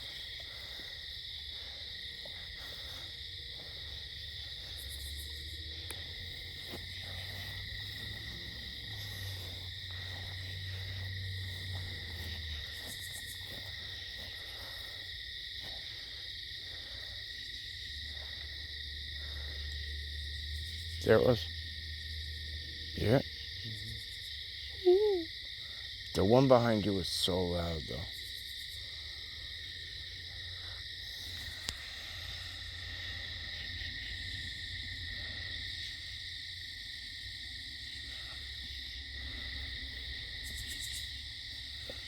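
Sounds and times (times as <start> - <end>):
insect chorus trilling: 0.0 - 42.0.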